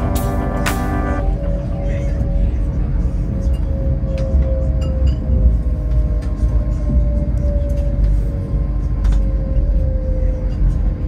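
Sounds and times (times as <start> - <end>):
steady train whine: 0.0 - 11.0
train running gear rumble: 0.0 - 11.0.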